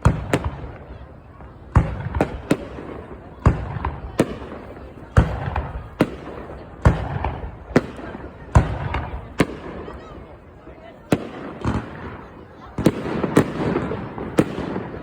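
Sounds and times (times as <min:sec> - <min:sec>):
fireworks bangs echoing: 0:00.0 - 0:15.0.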